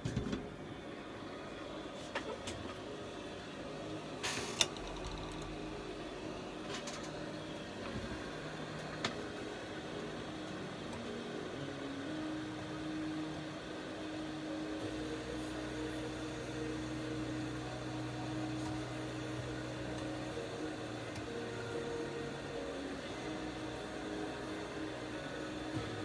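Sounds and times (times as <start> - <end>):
electric hum of equipment: 0.0 - 26.0.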